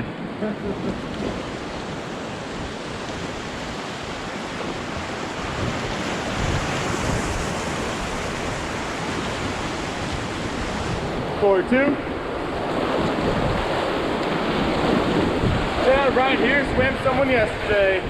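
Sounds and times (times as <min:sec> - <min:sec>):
whitewater rushing: 0:00.0 - 0:18.0.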